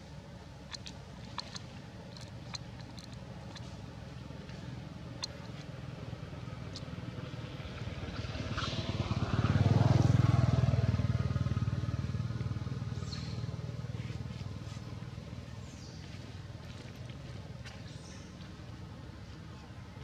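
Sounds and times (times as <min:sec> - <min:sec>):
motor vehicle driving past: 0:00.8 - 0:16.8.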